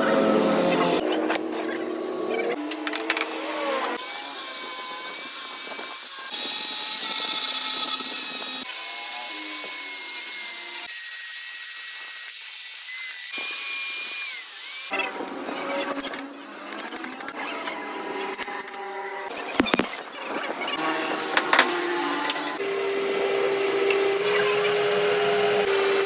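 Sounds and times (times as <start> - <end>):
metal cutting and grinding: 0.0 - 26.0.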